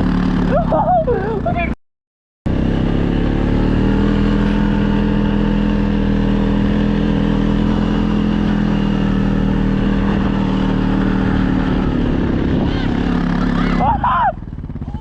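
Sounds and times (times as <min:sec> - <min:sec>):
vehicle engine humming: 0:00.0 - 0:01.8, 0:02.5 - 0:15.0.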